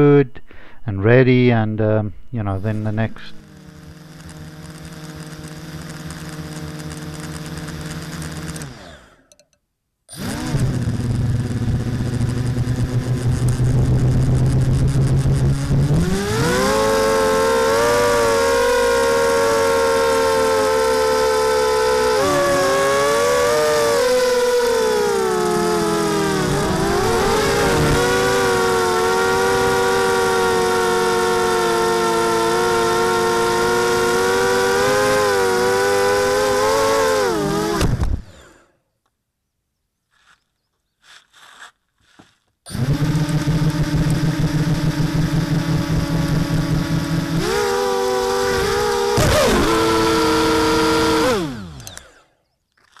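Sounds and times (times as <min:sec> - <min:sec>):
quadcopter motors whining: 0:02.7 - 0:09.4, 0:10.1 - 0:38.8, 0:42.7 - 0:53.0.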